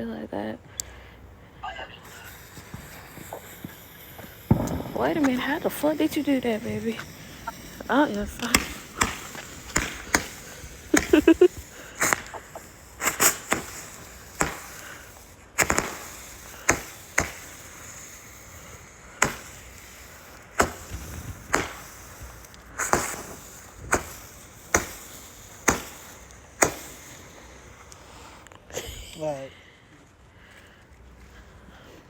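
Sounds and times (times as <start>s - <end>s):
fireworks bangs with echo: 1.4s - 28.4s.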